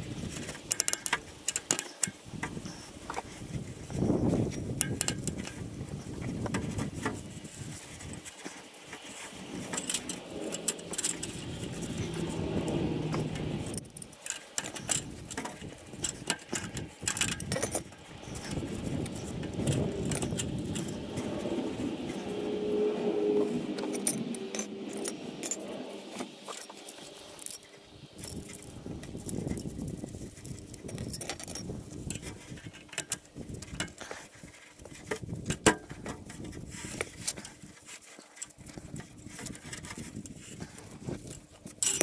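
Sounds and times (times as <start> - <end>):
metallic clinks and scrapes: 0.3 - 35.2, 36.3 - 42.0.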